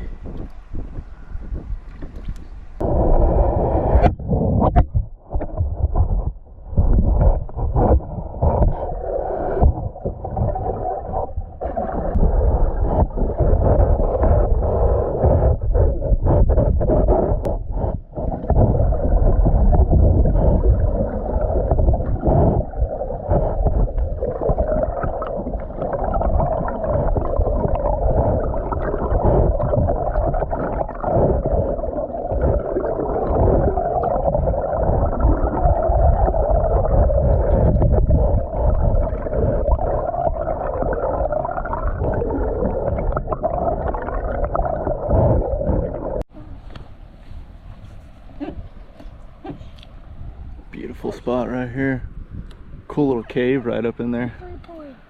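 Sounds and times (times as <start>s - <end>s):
muffled underwater rumbling and gurgling: 0.0s - 55.0s.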